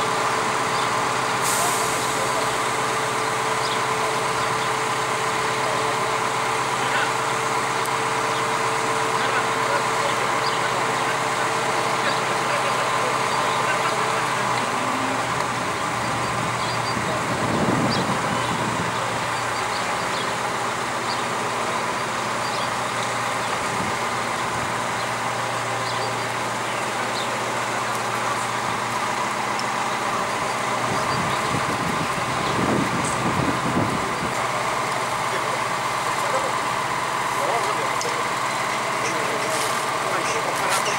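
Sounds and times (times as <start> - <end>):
crane diesel engine running: 0.0 - 40.9.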